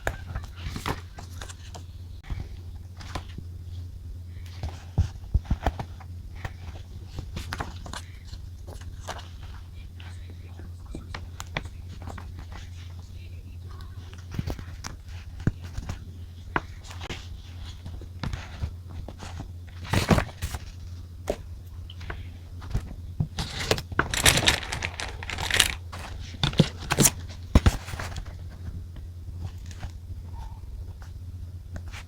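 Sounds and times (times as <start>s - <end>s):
paper rustling and crinkling: 0.0s - 13.1s, 13.8s - 28.8s
steady low hum: 0.0s - 32.0s.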